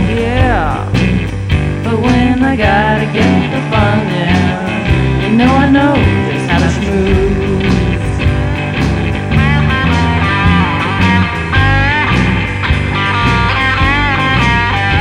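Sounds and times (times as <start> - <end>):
drum beat: 0.0 - 15.0
lead guitar bending notes: 0.0 - 15.0.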